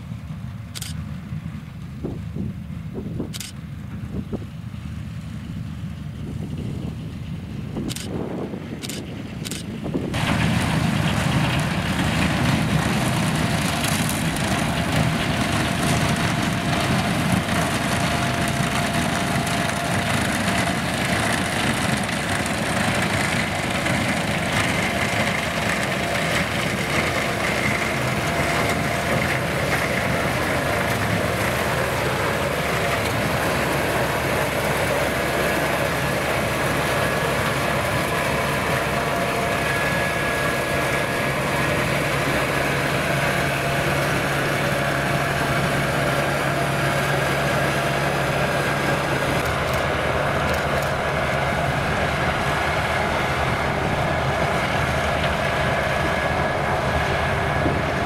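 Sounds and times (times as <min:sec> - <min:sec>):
harvester engine drone: 0:00.0 - 0:58.0.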